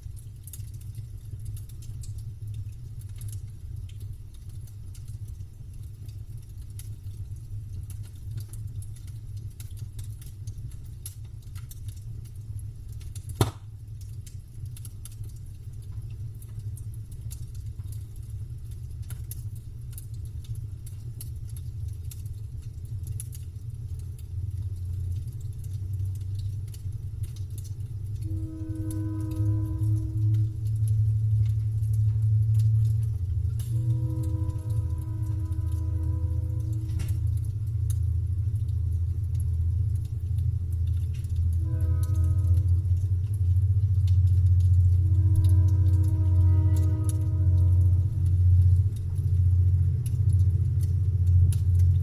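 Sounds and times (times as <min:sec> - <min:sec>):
campfire crackles and pops: 0:00.0 - 0:52.0
campfire rumbling: 0:00.0 - 0:52.0.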